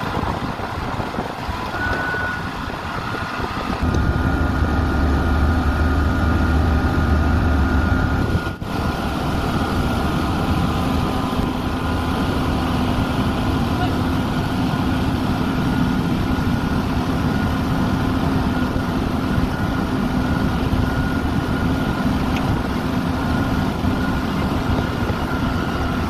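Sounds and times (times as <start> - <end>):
diesel engine humming: 0.0 - 26.0.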